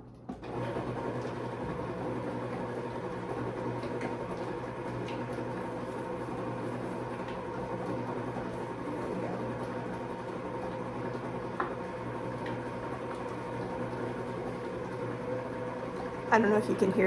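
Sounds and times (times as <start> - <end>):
stand mixer running: 0.1 - 17.0.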